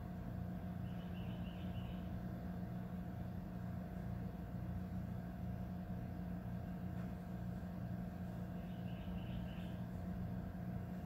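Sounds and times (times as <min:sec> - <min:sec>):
steady low hum with hiss: 0:00.0 - 0:11.0.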